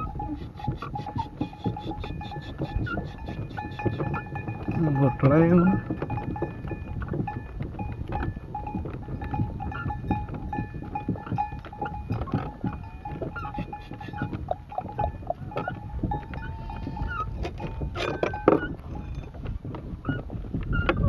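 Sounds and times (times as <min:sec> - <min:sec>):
wooden cart knocking and creaking: 0:00.0 - 0:21.0.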